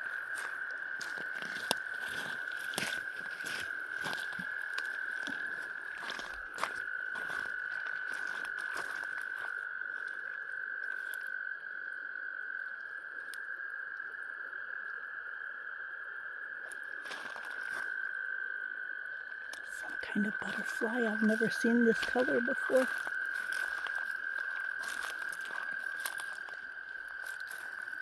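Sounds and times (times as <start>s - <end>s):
frogs trilling: 0.0s - 28.0s.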